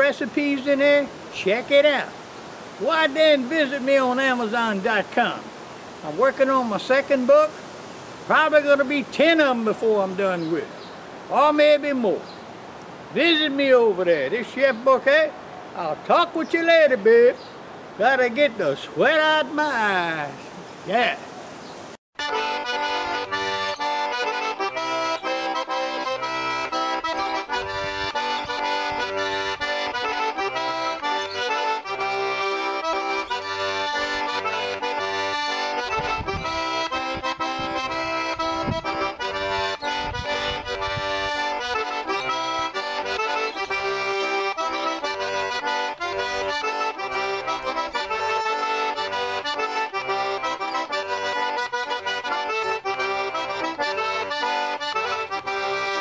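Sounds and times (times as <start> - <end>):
traditional accordion music: 0.0 - 7.6, 8.3 - 12.4, 13.0 - 21.2, 22.2 - 56.0.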